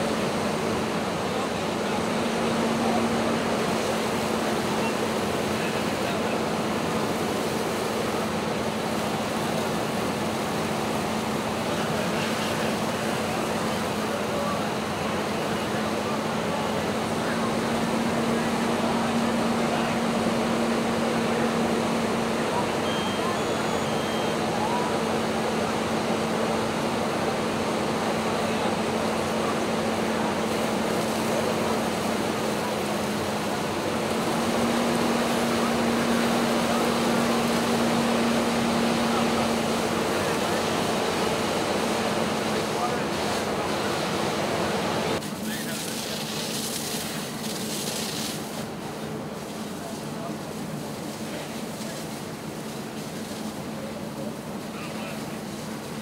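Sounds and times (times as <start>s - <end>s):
faint voices: 0.0s - 56.0s
fire engine humming: 0.0s - 56.0s
rushing hose streams and fire: 0.0s - 56.0s.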